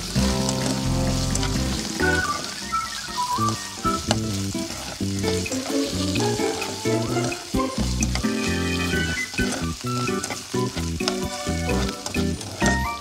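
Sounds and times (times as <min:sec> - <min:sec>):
background music: 0:00.0 - 0:13.0
meat sizzling in a frying pan: 0:00.0 - 0:13.0.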